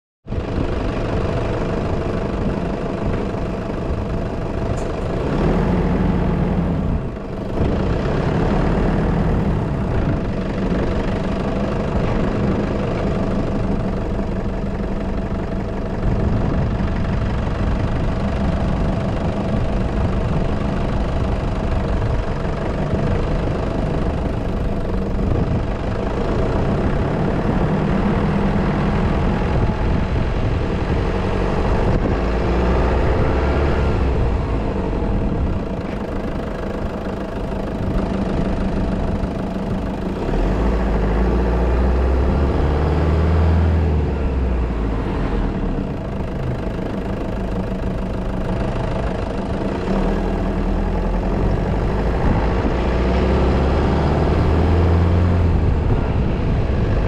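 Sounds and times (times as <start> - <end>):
vehicle engine humming: 0.2 - 57.0.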